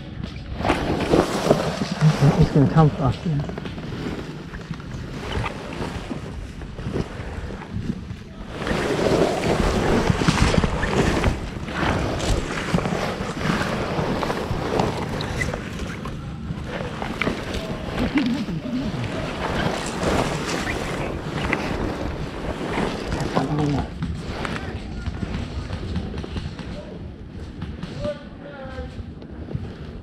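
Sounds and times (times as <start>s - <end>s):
rustling: 0.2s - 30.0s.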